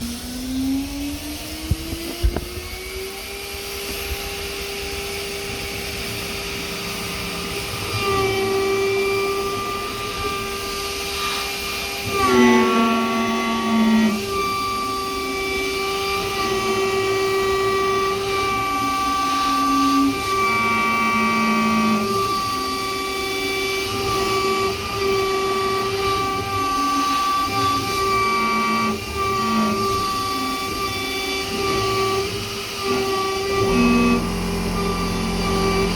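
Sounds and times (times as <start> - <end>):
end mill cutting metal: 0.0 - 35.9
router spindle whining: 0.0 - 35.9.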